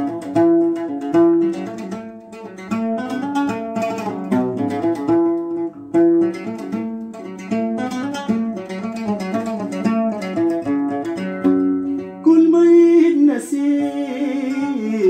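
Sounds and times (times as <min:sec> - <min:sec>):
solo oud playing: 0:00.0 - 0:15.0.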